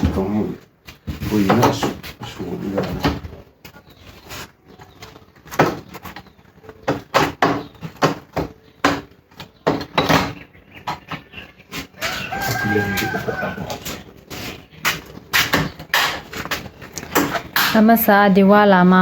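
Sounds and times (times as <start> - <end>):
hard objects knocking and clattering: 0.0 - 4.0, 4.7 - 17.9.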